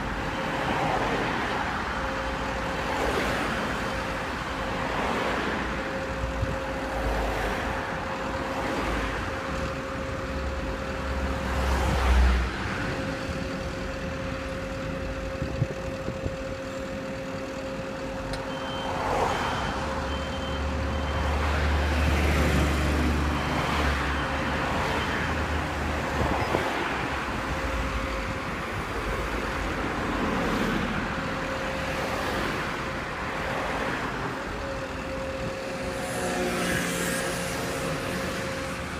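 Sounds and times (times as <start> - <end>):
steady traffic hum: 0.0 - 38.9
vehicles passing: 0.0 - 38.9.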